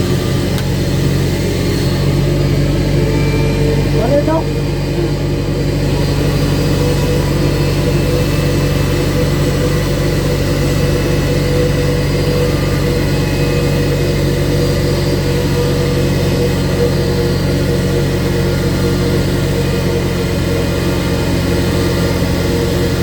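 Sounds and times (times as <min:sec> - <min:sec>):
faint high engine whine: 0:00.0 - 0:23.0
heavy jet engines droning: 0:00.0 - 0:23.0.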